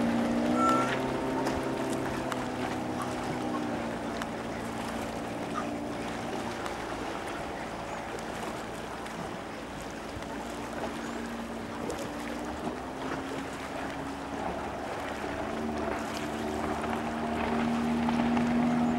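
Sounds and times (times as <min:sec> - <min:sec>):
outboard motor droning: 0:00.0 - 0:18.9.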